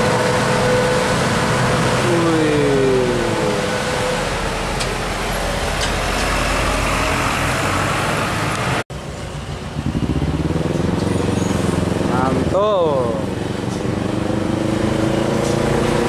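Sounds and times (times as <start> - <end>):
diesel truck passing: 0.0 - 16.0
truck diesel engine approaching: 0.0 - 16.0.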